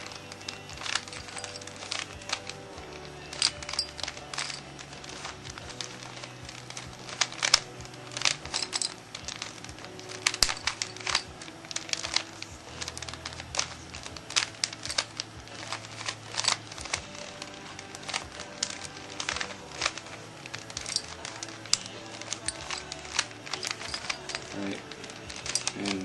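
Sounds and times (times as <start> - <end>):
plastic puzzle cube clicking: 0.0 - 26.0.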